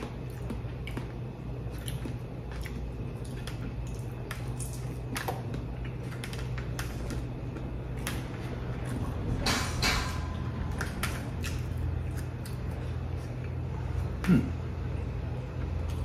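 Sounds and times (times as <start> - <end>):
person chewing food: 0.0 - 9.3, 10.2 - 16.0
steady low hum: 0.0 - 16.0.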